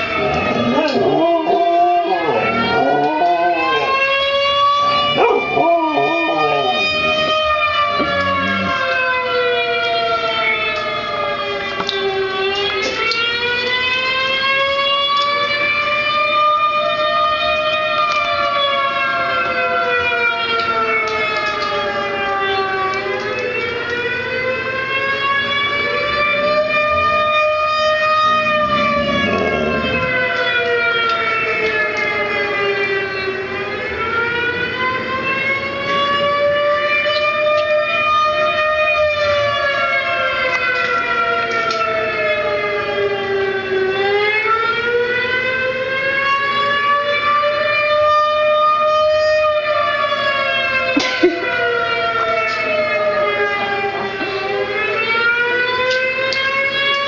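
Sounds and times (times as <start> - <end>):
wailing siren through speakers: 0.0 - 57.0.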